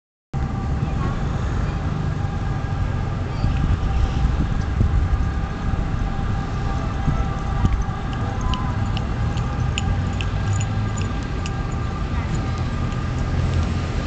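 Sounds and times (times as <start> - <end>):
distant traffic hum: 0.4 - 14.0
wind on microphone: 2.2 - 14.0.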